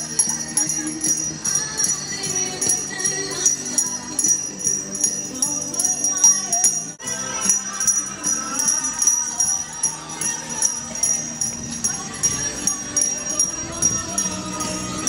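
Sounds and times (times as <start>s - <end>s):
handbells ringing: 0.0s - 15.0s.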